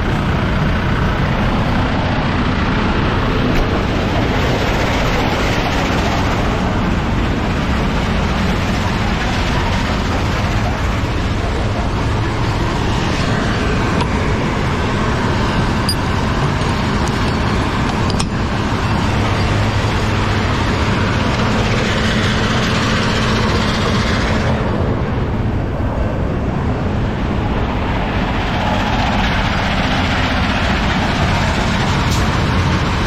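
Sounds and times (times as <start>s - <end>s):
diesel truck engine running: 0.0s - 33.0s.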